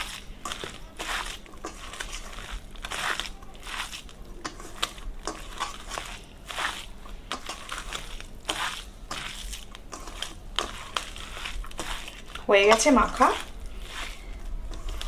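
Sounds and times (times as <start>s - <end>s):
hand squishing cooked rice: 0.0s - 15.0s.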